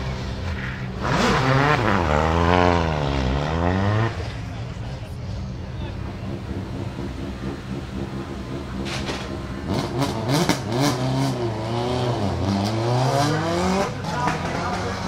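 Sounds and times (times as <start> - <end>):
car engine popping and revving: 0.0 - 4.8, 5.7 - 15.0
rally car engines idling: 0.0 - 15.0.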